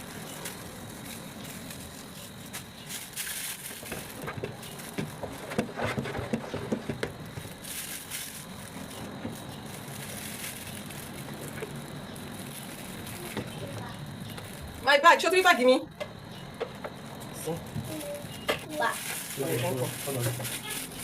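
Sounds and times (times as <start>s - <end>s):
plastic bags rustling: 0.0s - 21.0s.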